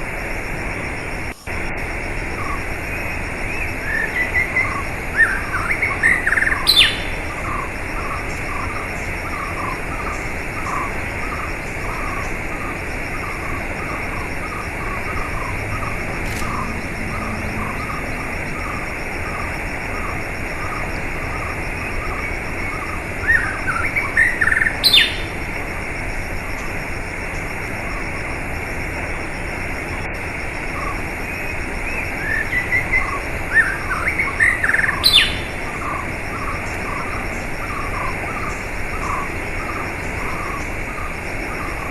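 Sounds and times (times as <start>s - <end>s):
wild birds chirping: 0.0s - 41.9s.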